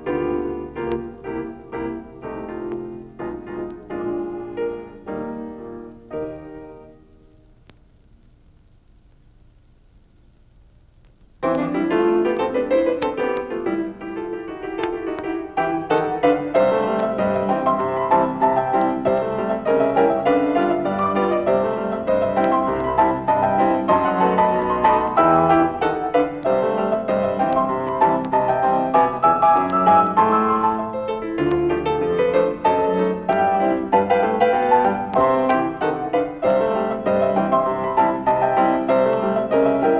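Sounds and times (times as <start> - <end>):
piano music: 0.0 - 7.5, 11.4 - 39.9.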